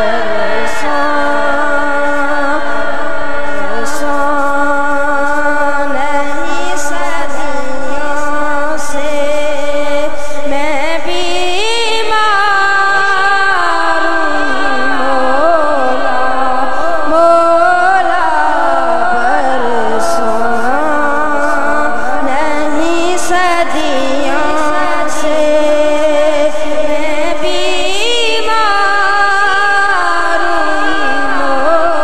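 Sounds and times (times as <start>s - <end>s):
boy singing into a microphone: 0.0s - 32.0s.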